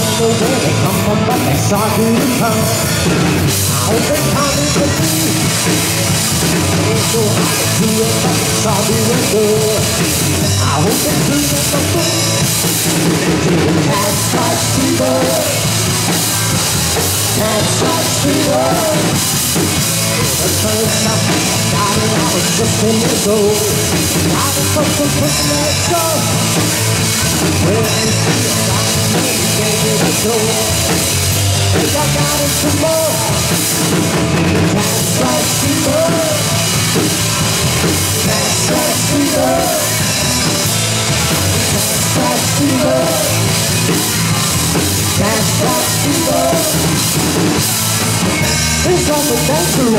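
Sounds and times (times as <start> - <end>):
bass guitar: 0.0 - 49.9
drum kit: 0.0 - 49.9
electric guitars: 0.0 - 49.9.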